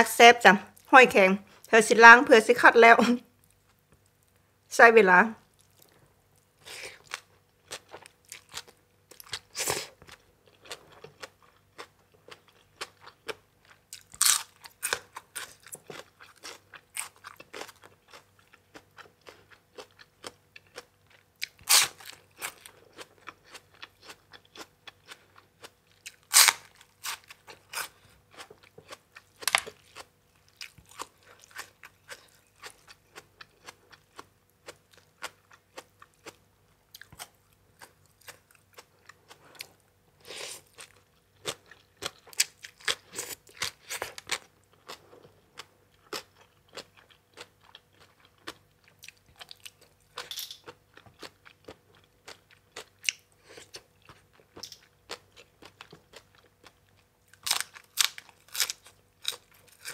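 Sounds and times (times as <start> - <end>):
crisp food crunching: 7.0 - 36.4, 40.4 - 59.9.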